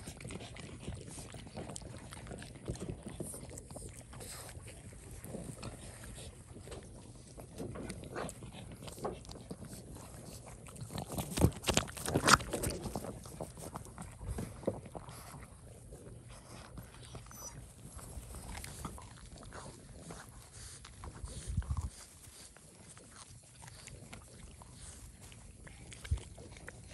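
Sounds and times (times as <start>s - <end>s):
dogs chewing watermelon: 0.0s - 26.9s.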